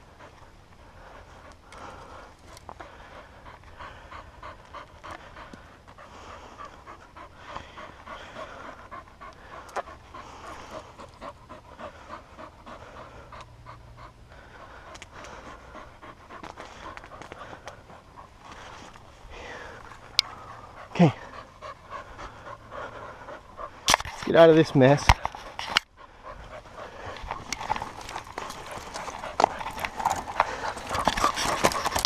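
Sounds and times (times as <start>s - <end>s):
dog panting: 0.0s - 32.0s.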